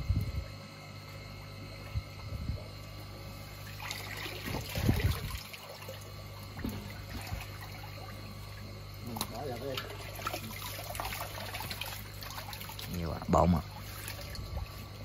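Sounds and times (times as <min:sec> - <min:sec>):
steady low hum: 0:00.0 - 0:15.0
water sloshing and trickling: 0:01.6 - 0:15.0.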